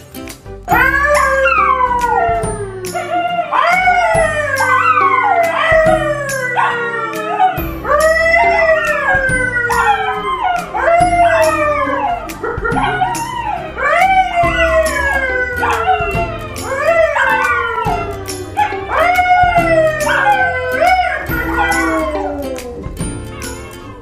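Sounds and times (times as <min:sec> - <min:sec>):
background music: 0:00.0 - 0:24.0
man howling: 0:00.7 - 0:23.0
dogs howling: 0:00.7 - 0:24.0.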